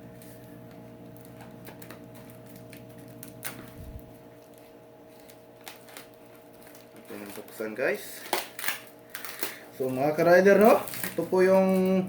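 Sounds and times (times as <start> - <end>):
steady low hum: 0.0 - 12.0
parcel clicks and rustles: 0.6 - 12.0.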